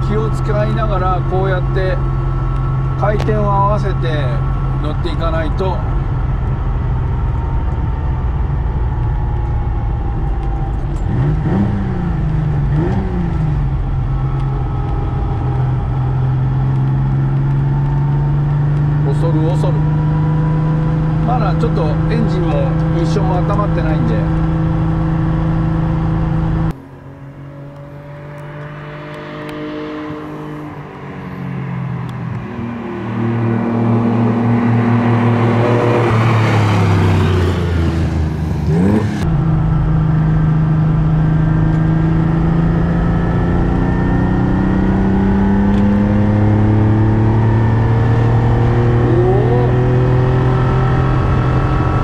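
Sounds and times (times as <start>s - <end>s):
car engine from inside cabin: 0.0s - 52.0s.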